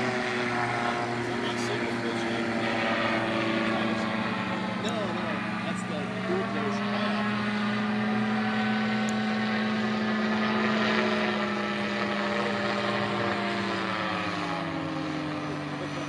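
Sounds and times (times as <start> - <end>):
model airplane engine droning: 0.0 - 16.0.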